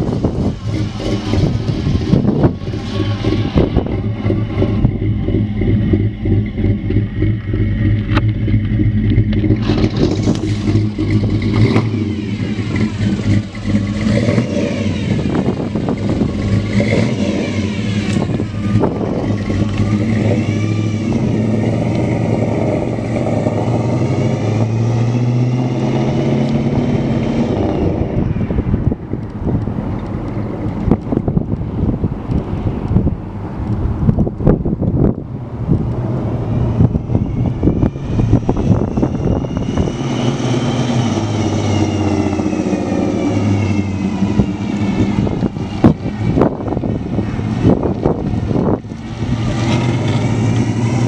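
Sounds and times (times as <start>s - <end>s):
car engine driving by: 0.0s - 51.0s.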